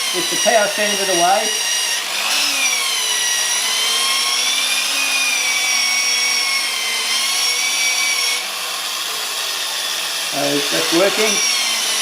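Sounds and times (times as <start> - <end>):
power sander motor whine: 0.0 - 12.0.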